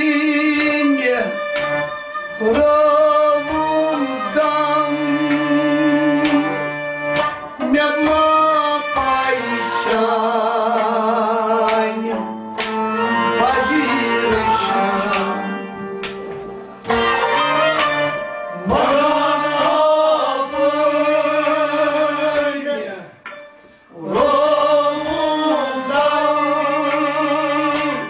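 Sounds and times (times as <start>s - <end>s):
harmonium sustained tones: 0.0s - 28.0s.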